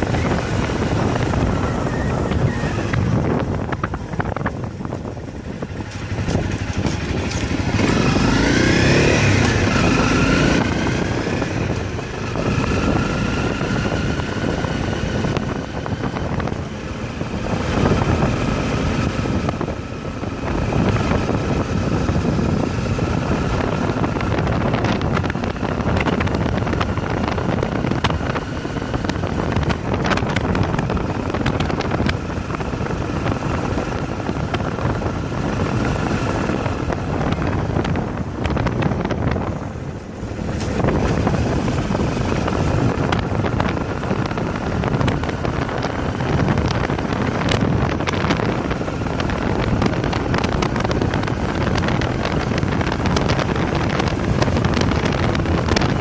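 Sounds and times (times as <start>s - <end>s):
motorcycle engine at speed: 0.0s - 56.0s
wind noise on microphone: 0.0s - 56.0s.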